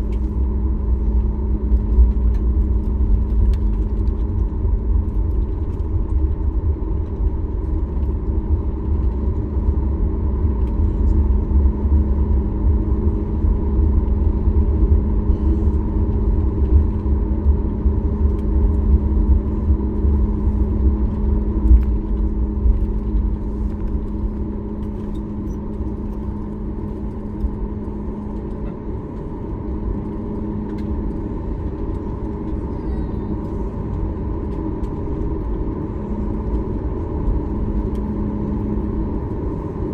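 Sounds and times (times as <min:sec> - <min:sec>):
aircraft cabin engine hum: 0:00.0 - 0:39.9
heavy low rumble: 0:00.0 - 0:39.9.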